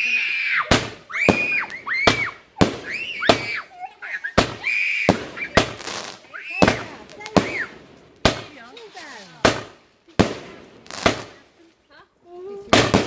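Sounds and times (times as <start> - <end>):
fireworks whistling: 0.0 - 11.5, 12.7 - 13.0
fireworks bangs: 0.0 - 11.6, 12.6 - 13.0.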